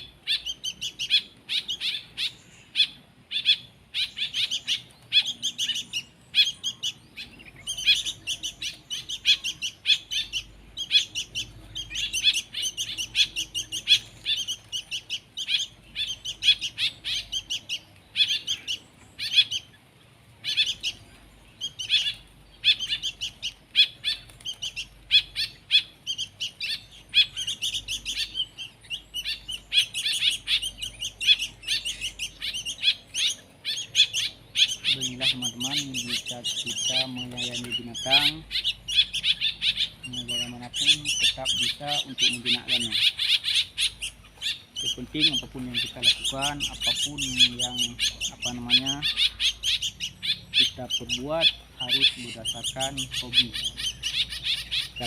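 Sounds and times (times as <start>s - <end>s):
baby songbirds chirping: 0.0s - 55.0s.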